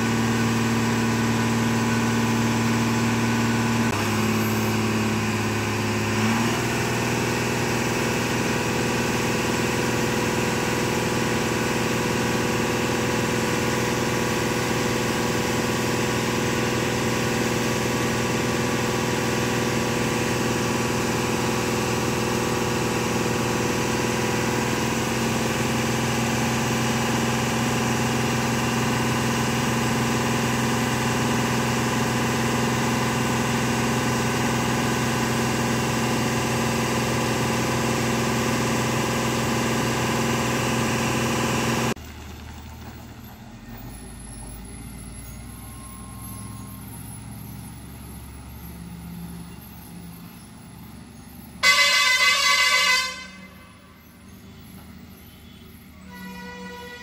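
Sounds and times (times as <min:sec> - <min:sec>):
diesel truck engine idling: 0:00.0 - 0:57.0
distant truck engine: 0:00.0 - 0:57.0.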